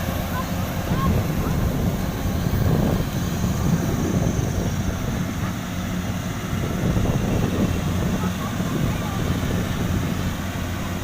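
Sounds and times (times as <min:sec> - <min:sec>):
combine harvester diesel engine: 0:00.0 - 0:11.0.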